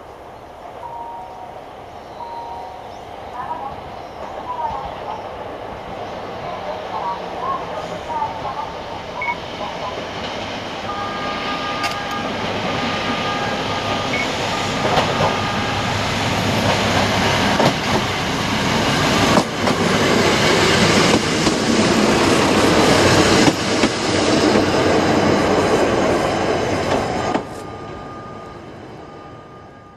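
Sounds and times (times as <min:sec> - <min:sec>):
diesel railcar passing: 0:00.0 - 0:29.9.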